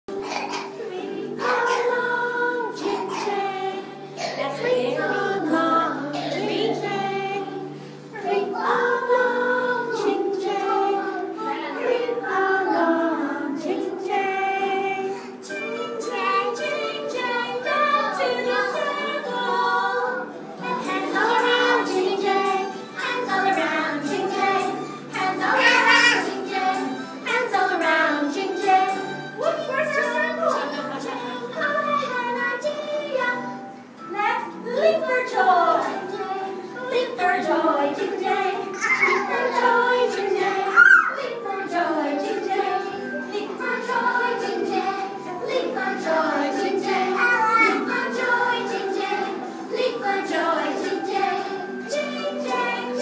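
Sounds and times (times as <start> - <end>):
group singing children's song: 0.1 - 53.0.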